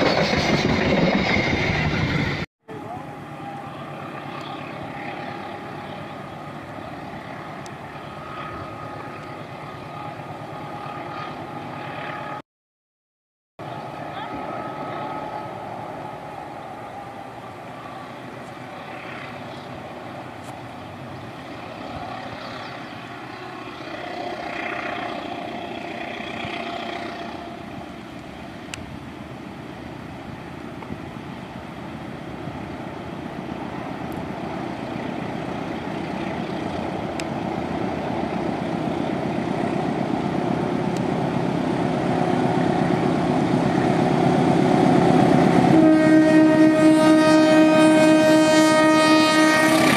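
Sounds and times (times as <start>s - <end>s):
diesel locomotive rumble: 0.0s - 12.3s, 13.6s - 49.9s.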